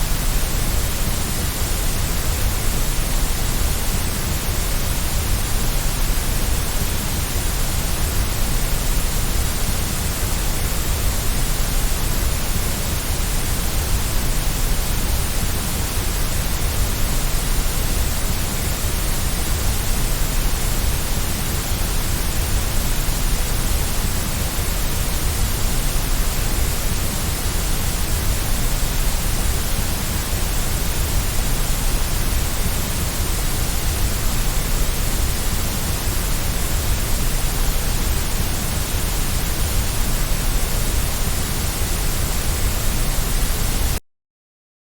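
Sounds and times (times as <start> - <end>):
white noise hiss: 0.0 - 44.0.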